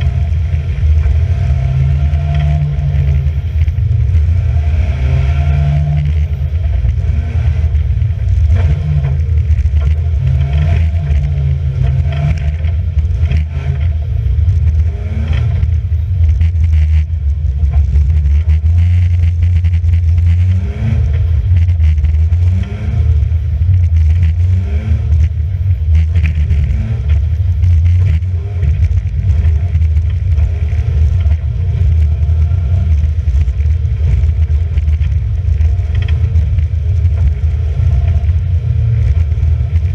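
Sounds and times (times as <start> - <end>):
racing car engine drone: 0.0 - 39.9.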